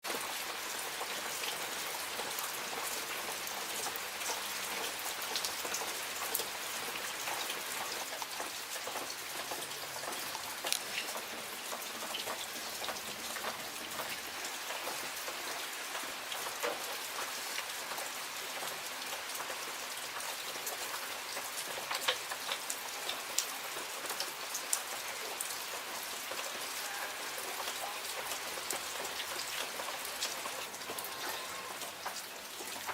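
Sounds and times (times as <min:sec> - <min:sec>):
rain falling on a surface: 0:00.0 - 0:32.9.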